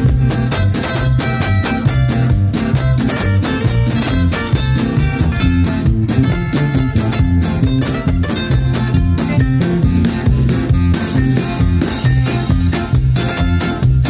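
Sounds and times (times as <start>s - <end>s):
acoustic guitars strummed: 0.0s - 14.0s
bass guitar: 0.0s - 14.0s
drums: 0.0s - 14.0s.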